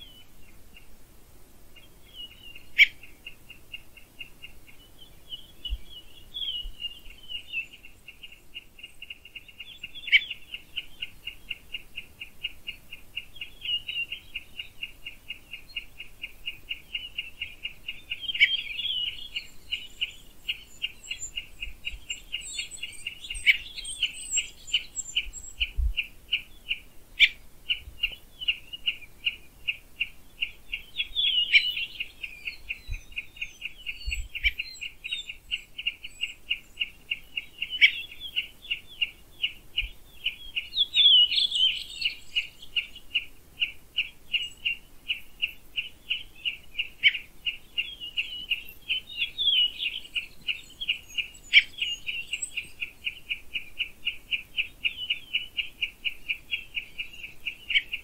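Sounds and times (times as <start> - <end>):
birds singing varied phrases: 1.7 - 58.0.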